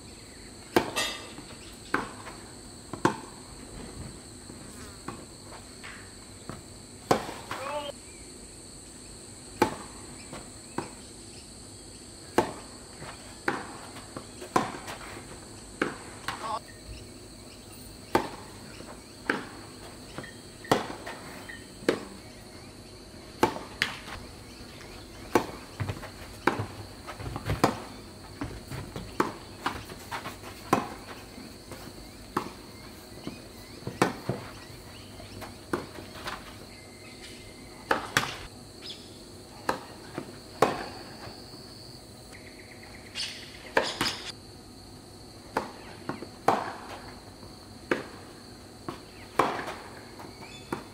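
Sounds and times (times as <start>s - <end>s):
insects droning: 0.0s - 50.9s
tennis balls struck and bouncing: 0.3s - 8.0s, 9.5s - 11.2s, 12.2s - 17.1s, 17.7s - 38.6s, 39.6s - 41.4s, 43.4s - 44.4s, 45.5s - 50.9s.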